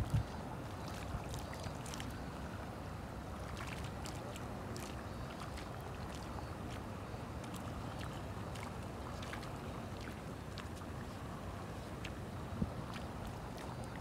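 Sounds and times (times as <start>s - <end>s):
faint water ticks: 0.0s - 14.0s
small waves lapping: 0.0s - 14.0s.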